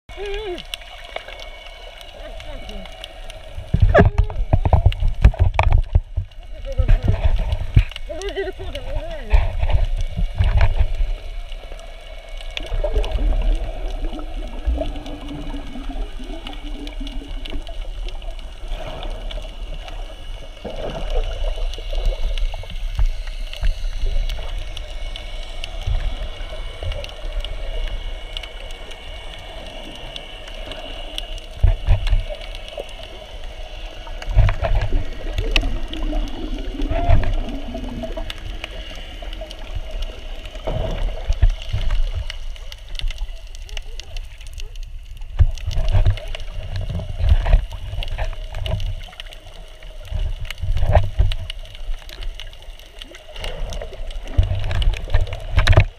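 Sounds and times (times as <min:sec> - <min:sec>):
underwater gurgling and sloshing: 0:00.1 - 0:55.9.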